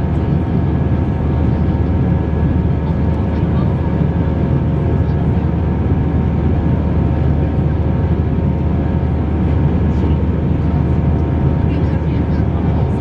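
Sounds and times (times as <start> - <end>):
aircraft cabin engine drone: 0.0 - 13.0.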